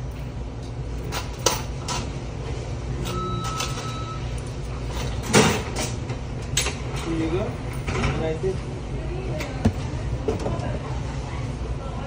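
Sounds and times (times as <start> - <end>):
kitchen equipment humming: 0.0 - 12.0.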